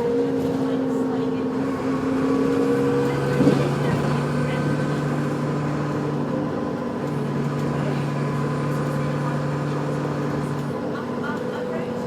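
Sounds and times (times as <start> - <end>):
vehicle droning hum: 0.0 - 12.0.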